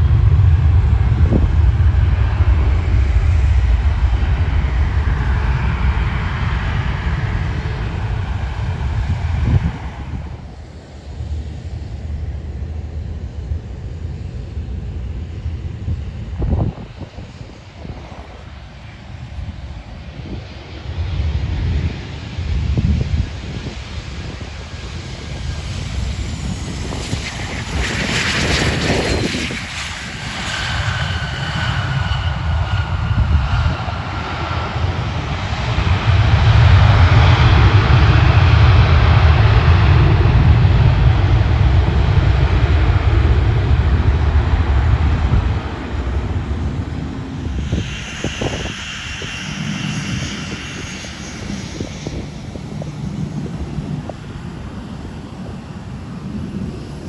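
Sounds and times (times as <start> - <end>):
airplane engines passing: 0.0 - 57.0.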